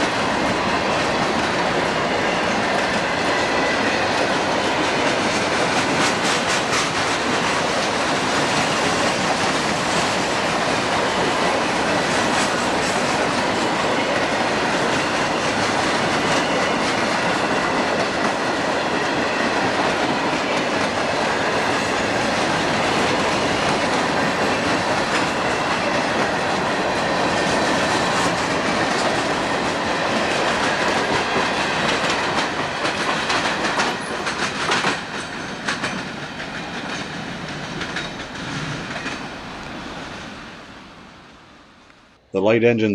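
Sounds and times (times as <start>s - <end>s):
train wheels clicking over rail joints: 0.0s - 42.0s.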